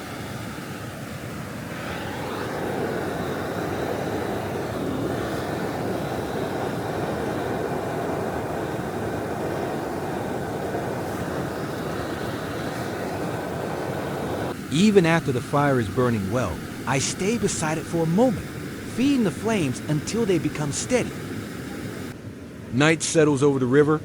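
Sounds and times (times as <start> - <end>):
gas blowtorch running: 0.0 - 22.2.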